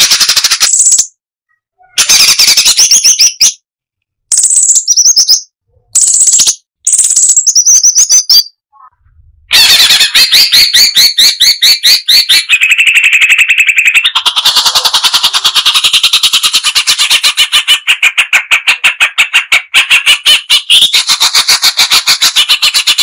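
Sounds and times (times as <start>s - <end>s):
bird chattering song: 0.0s - 3.6s, 4.3s - 23.0s.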